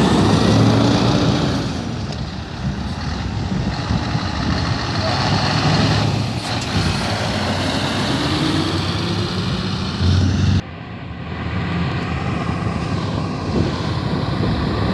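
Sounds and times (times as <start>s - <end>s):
diesel truck engine accelerating past: 0.0s - 14.9s.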